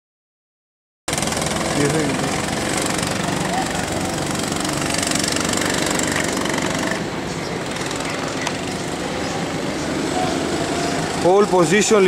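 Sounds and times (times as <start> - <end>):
go-kart engines buzzing: 1.1 - 12.0.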